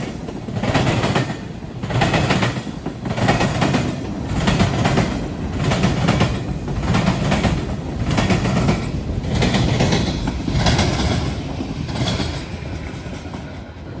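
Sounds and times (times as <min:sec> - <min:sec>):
train rumble: 0:00.0 - 0:14.0
train wheels clacking over track: 0:00.0 - 0:14.0.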